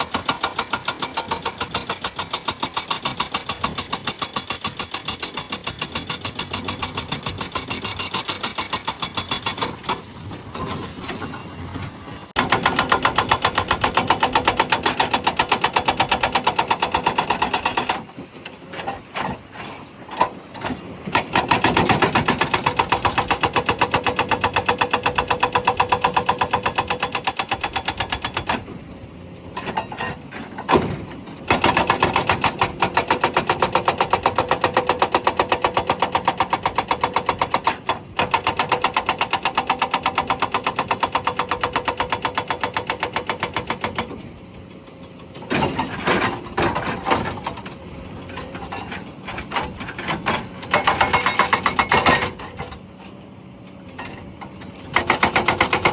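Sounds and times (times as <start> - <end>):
hydraulic breaker hammering rock: 0.0 - 11.3, 12.4 - 28.8, 29.6 - 44.4, 45.3 - 53.0, 54.0 - 55.9.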